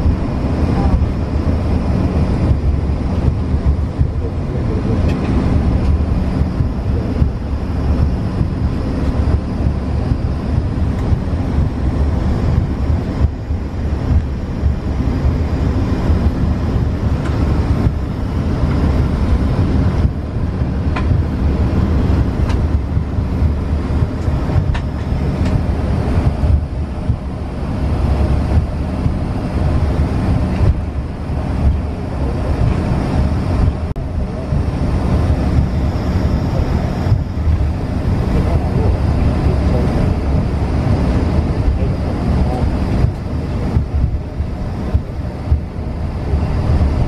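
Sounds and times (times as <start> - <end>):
faint whine: 0.0 - 47.0
jet engines rumbling in cabin: 0.0 - 47.0.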